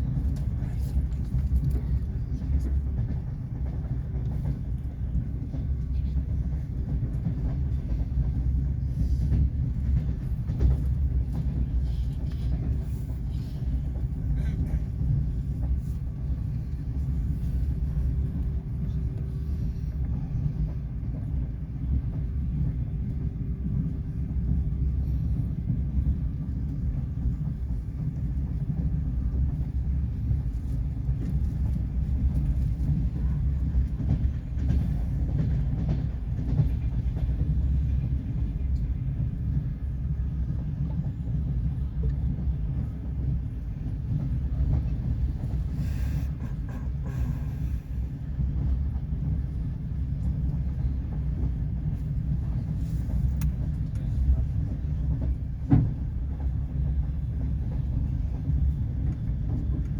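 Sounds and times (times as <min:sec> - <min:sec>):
train rumbling: 0:00.0 - 0:59.9.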